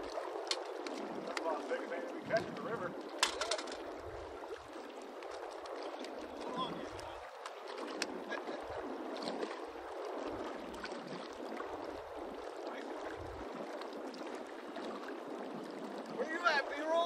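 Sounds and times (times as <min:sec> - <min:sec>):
lake water lapping on rocks: 0:00.0 - 0:17.0
wind rumble on microphone: 0:00.0 - 0:17.0.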